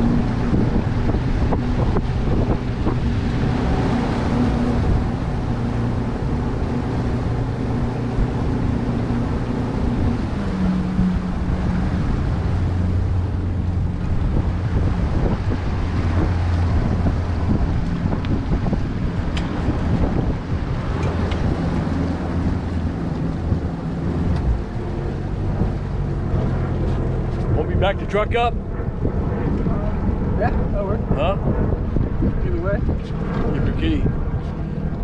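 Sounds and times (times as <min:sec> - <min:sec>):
boat engine running: 0:00.0 - 0:35.0
wind buffeting microphone: 0:00.0 - 0:35.0.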